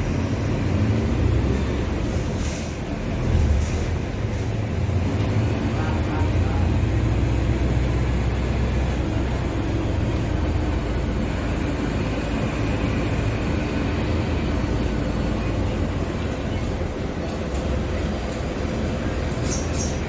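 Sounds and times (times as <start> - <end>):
diesel bus engine running: 0.0 - 20.0.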